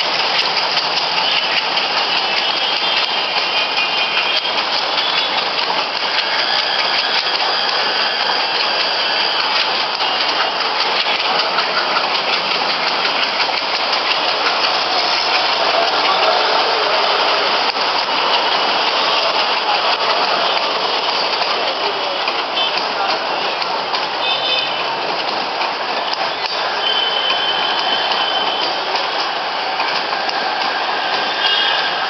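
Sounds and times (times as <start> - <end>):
diesel locomotive engine chugging: 0.0 - 32.0.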